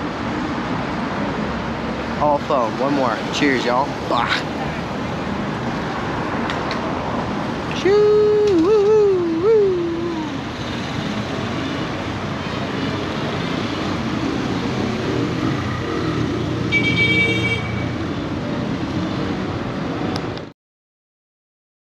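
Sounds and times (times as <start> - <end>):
steady traffic: 0.0 - 20.5.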